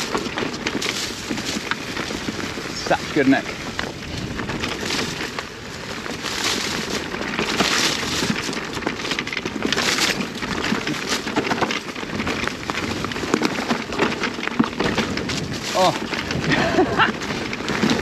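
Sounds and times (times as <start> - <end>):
bike clattering and knocking: 0.0 - 18.0
bike tyres on dirt trail: 0.0 - 18.0.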